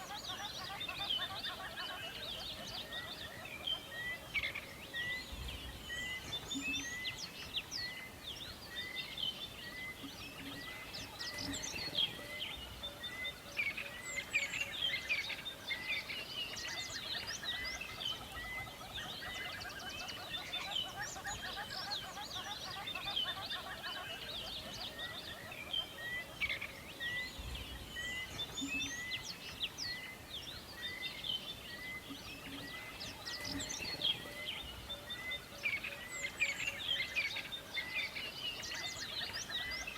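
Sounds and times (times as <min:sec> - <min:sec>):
birds dawn chorus: 0:00.0 - 0:39.9.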